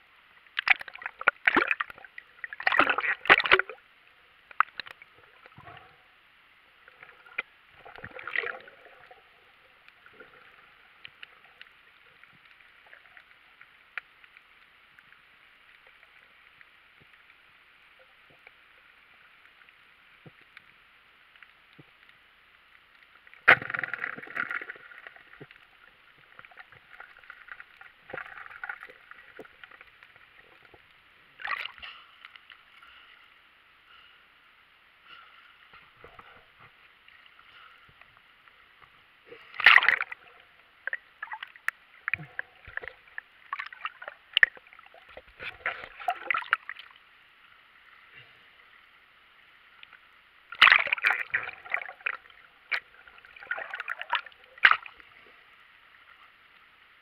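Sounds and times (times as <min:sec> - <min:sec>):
faint underwater hiss: 0:00.0 - 0:57.0
water splashing and sloshing: 0:00.0 - 0:57.0.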